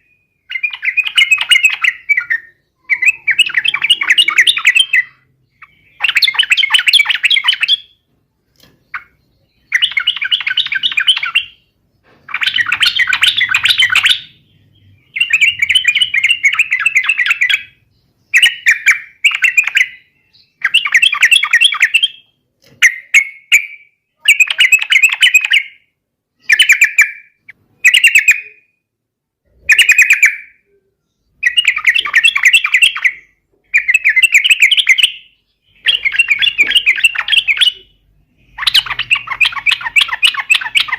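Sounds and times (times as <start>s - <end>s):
bird chattering song: 0.0s - 28.8s, 29.5s - 40.9s.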